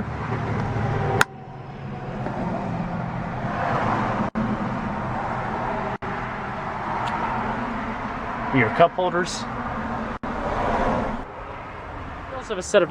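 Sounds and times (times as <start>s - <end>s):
distant road traffic: 0.0s - 12.9s.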